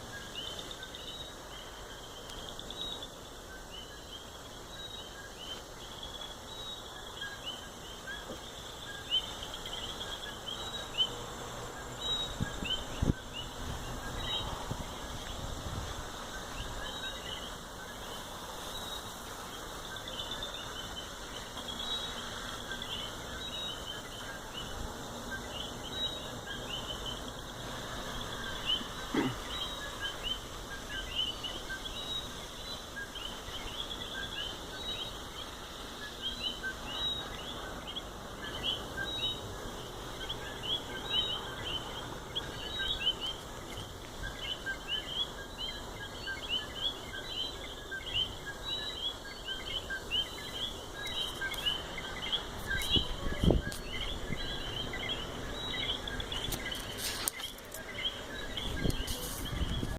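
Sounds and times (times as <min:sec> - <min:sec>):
frogs chirping in chorus: 0:00.0 - 0:59.9.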